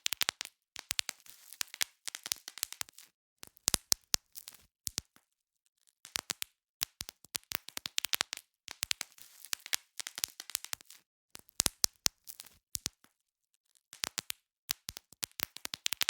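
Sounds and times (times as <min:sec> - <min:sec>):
bubble wrap popping: 0:00.0 - 0:05.2, 0:06.0 - 0:13.1, 0:13.9 - 0:16.0.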